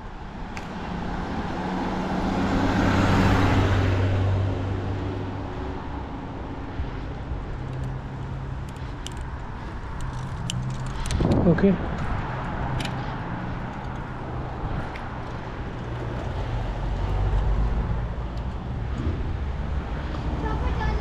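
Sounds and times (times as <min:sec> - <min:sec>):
background road noise: 0:00.0 - 0:21.0.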